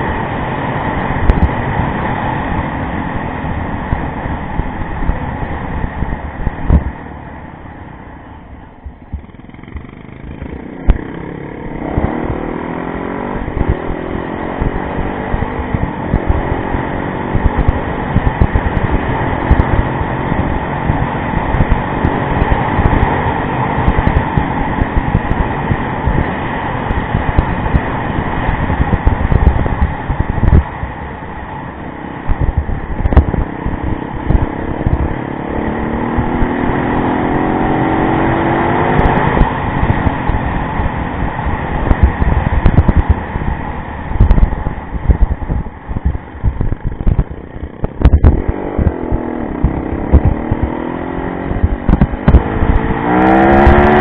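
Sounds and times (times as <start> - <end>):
low rumbling buffeting: 0.0 - 54.0
motorcycle engine accelerating: 0.0 - 54.0.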